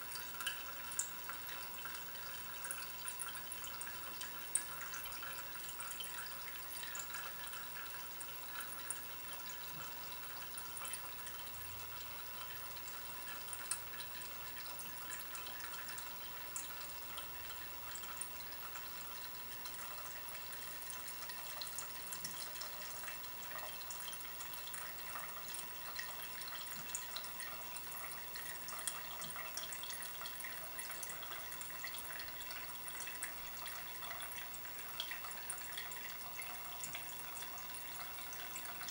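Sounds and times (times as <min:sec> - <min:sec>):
fuel trickling with small drips: 0:00.0 - 0:38.9.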